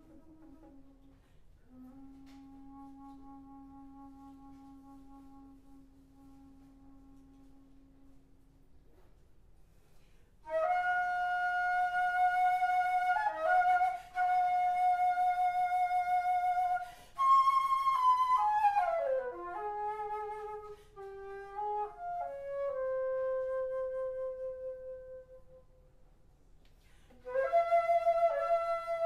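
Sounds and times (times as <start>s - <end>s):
alto flute playing: 0.0s - 9.1s, 10.4s - 25.8s, 27.1s - 29.0s.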